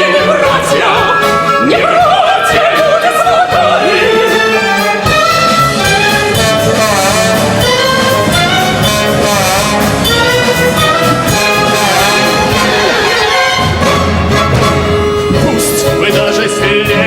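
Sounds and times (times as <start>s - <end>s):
orchestral music: 0.0s - 17.0s.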